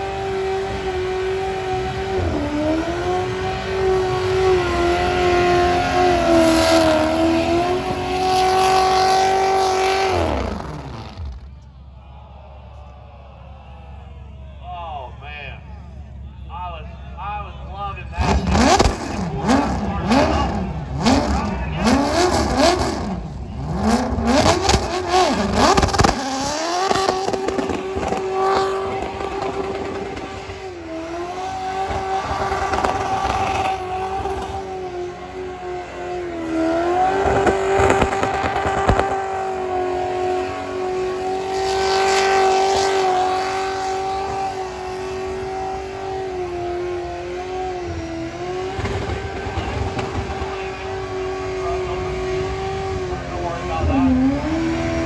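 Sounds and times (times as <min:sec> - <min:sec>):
car engine revving hard: 0:00.0 - 0:11.5, 0:18.2 - 0:55.0.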